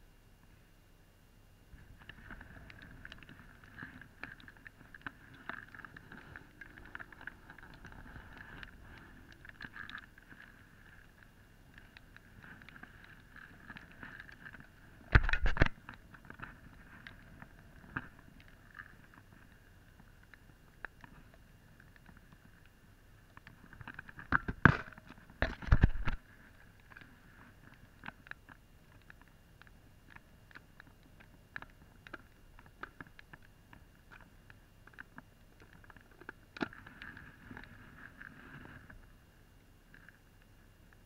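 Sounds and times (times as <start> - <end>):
faint high hum: 0.0 - 41.0
camera handling ticks and rustles: 1.8 - 39.1.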